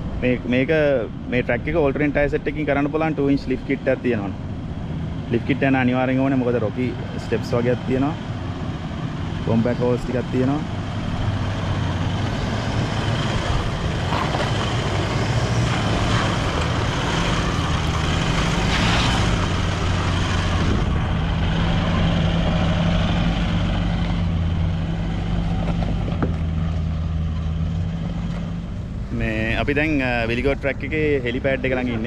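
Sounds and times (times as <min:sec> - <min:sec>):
vehicle engine running at low revs: 0:00.9 - 0:32.0.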